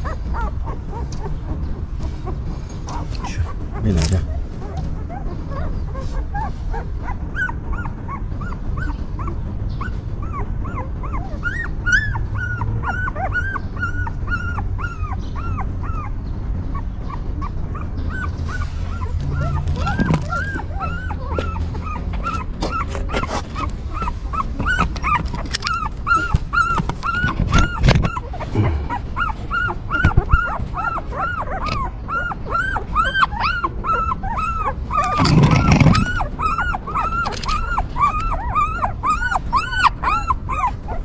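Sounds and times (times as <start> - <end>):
puppies whimpering: 0.0 - 41.0.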